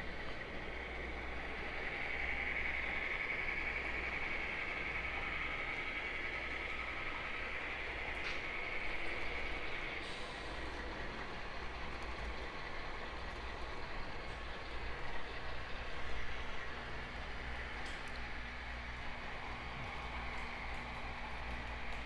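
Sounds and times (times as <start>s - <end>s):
model train rolling with whine: 0.0s - 22.0s.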